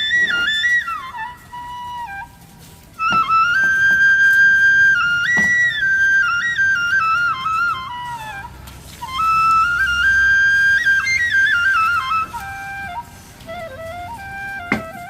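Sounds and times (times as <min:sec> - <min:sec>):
solo flute melody: 0:00.0 - 0:15.0.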